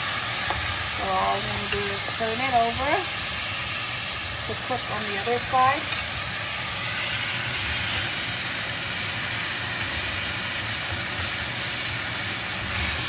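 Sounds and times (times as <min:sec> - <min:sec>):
beef sizzling in a frying pan: 0:00.0 - 0:13.0.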